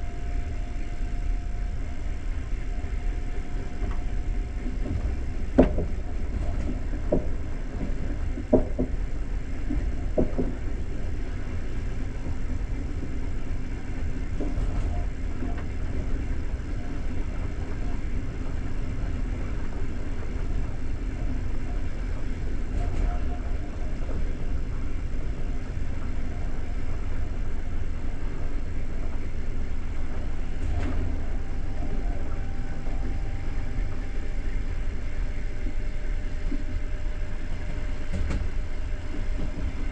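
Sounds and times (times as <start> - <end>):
train carriage rumbling on track: 0.0 - 39.9.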